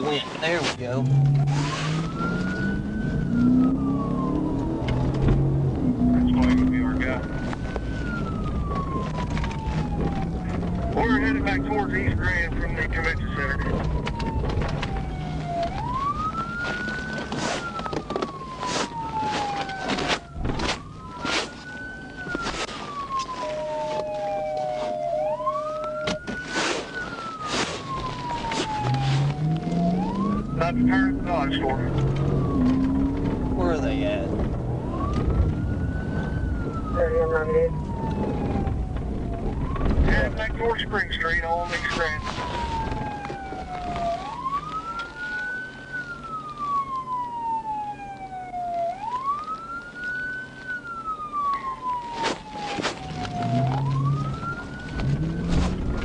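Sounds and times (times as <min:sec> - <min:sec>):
police siren wailing: 0:00.0 - 0:56.0.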